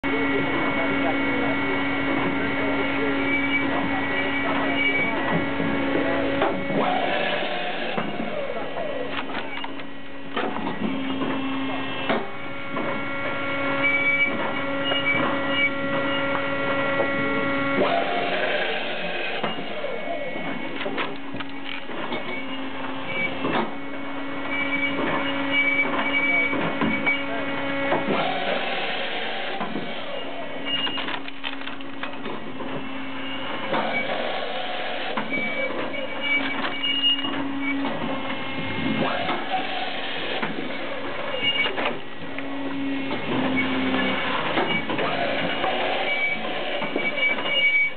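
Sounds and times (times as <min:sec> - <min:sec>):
log splitter motor humming: 0:00.0 - 0:47.9.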